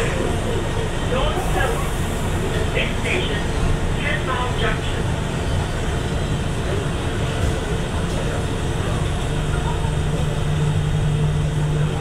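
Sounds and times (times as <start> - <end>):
train rolling noise: 0.0 - 12.0.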